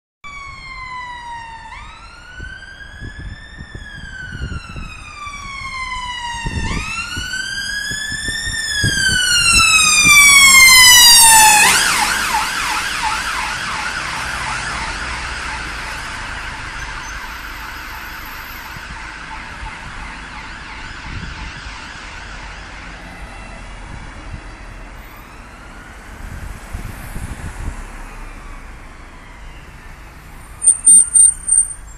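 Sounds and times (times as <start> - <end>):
emergency siren wailing and yelping: 0.2 - 31.9.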